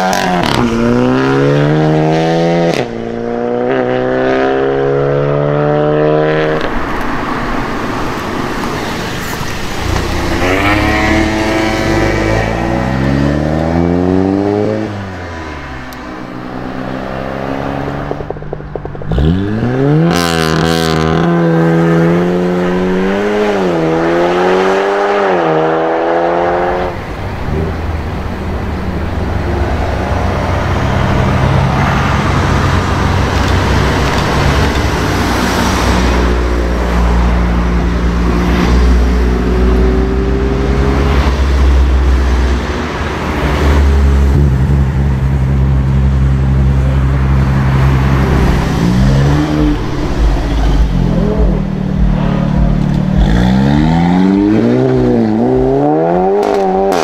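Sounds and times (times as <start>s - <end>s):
cars driving past and revving: 0.0s - 57.0s
car engine accelerating hard: 7.8s - 57.0s.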